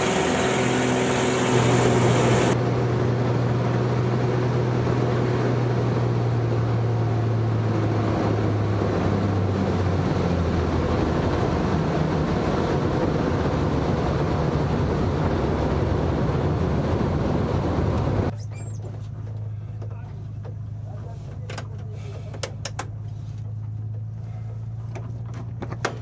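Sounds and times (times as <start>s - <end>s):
propeller plane engine droning: 0.0s - 26.0s
wind: 0.0s - 26.0s.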